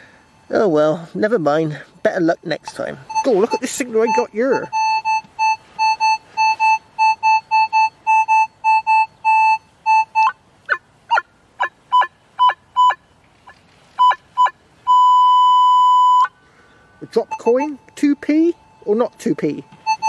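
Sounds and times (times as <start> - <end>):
metal detector beeps: 0.0 - 10.4, 11.9 - 13.0, 14.0 - 16.4, 17.0 - 20.0.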